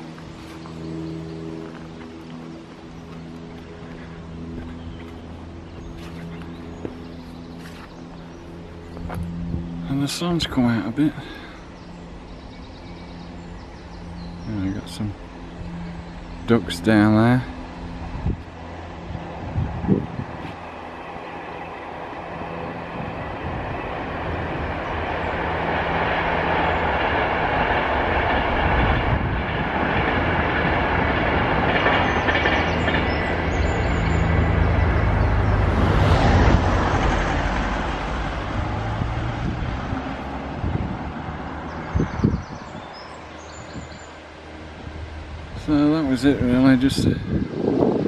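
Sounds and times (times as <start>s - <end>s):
train rumbling past: 0.0s - 48.0s.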